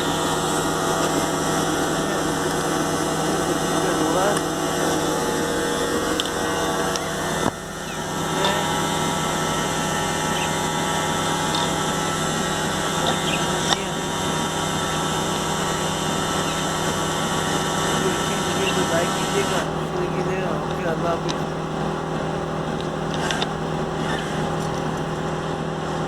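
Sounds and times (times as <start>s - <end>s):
faint high chirps: 0.0s - 25.2s
mechanical drone: 0.0s - 25.3s.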